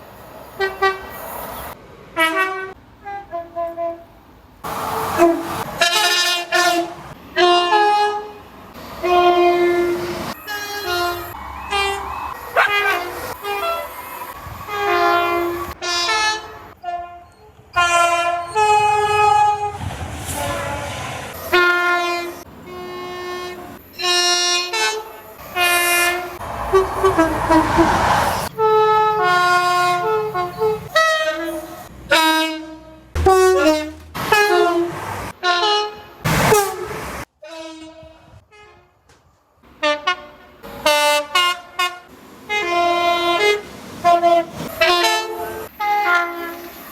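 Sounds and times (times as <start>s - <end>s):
passing train rumble: 0.0s - 24.1s, 25.0s - 35.5s, 40.6s - 46.9s
train horn blasts: 2.2s - 4.2s, 5.1s - 39.1s, 39.8s - 46.9s.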